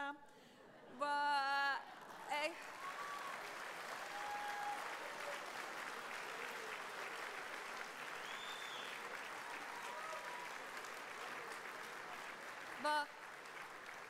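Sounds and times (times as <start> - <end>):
audience applauding: 1.9 - 14.0.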